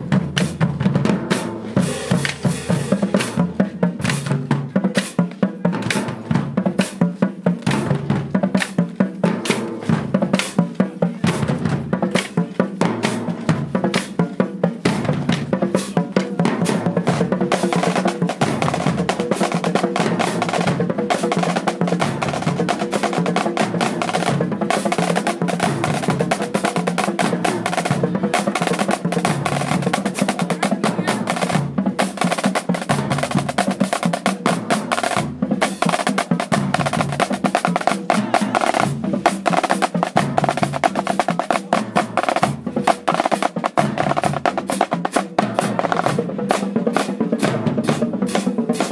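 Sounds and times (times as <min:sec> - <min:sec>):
bass drums: 0:00.0 - 0:48.9
snare drums: 0:00.0 - 0:48.9.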